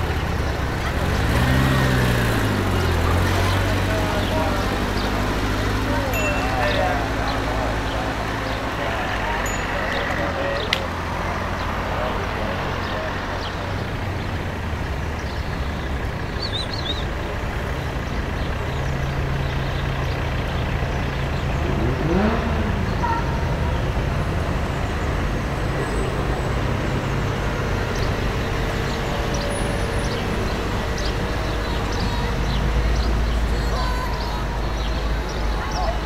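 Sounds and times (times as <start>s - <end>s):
traffic passing: 0.0s - 36.0s
vehicle engine humming: 0.0s - 36.0s.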